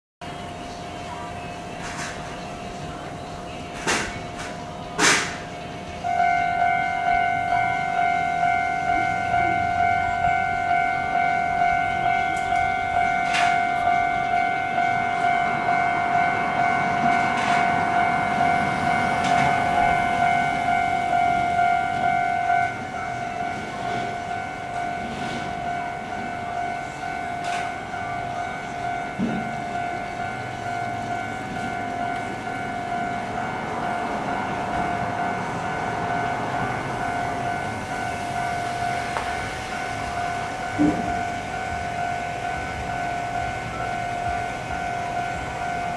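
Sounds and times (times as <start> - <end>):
train passing: 0.2 - 45.9
level-crossing alarm clanging: 0.3 - 45.9.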